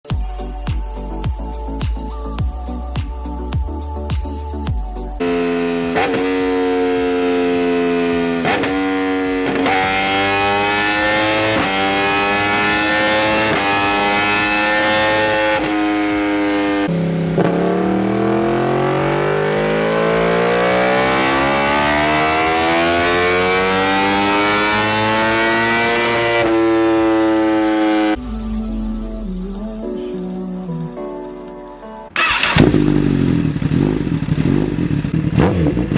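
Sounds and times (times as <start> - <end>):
motorbike engine accelerating: 5.2 - 35.9.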